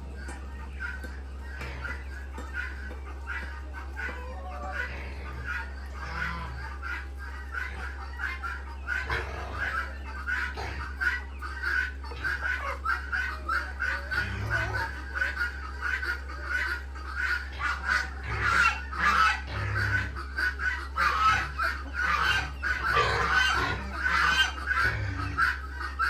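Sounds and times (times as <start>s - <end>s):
low steady hum: 0.0s - 26.0s
poultry calling: 0.0s - 26.0s.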